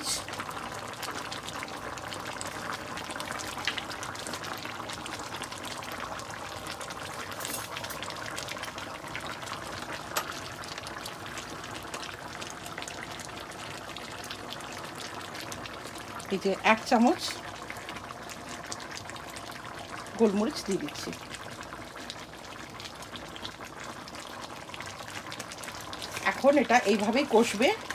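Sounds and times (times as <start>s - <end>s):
meat sauce sizzling and bubbling: 0.0s - 27.9s.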